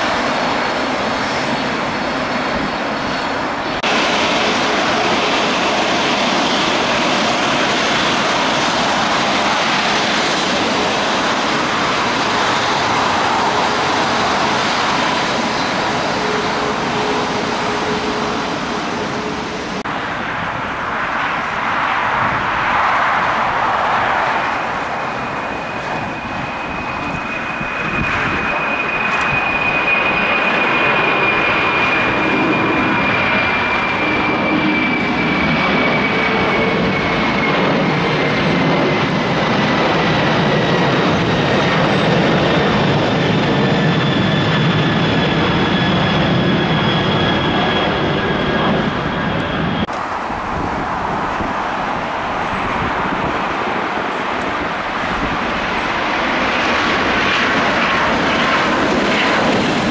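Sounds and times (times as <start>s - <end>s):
jet engines at takeoff power: 0.0s - 59.9s
jet roaring on takeoff: 0.0s - 59.9s.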